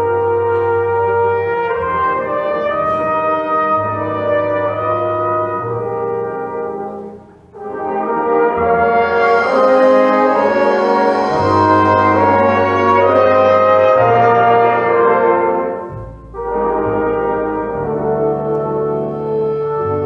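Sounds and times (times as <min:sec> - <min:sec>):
wind band playing chords: 0:00.0 - 0:20.0.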